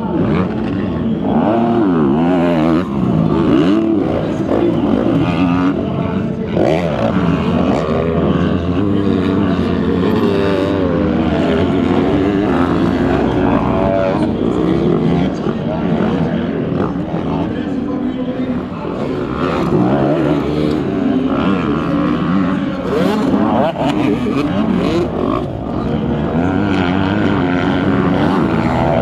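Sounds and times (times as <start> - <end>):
motocross engines revving: 0.0 - 29.0.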